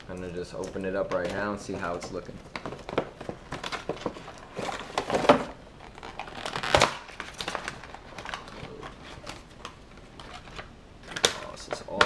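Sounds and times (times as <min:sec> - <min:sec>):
packaging rustling and clicking: 0:00.1 - 0:12.0.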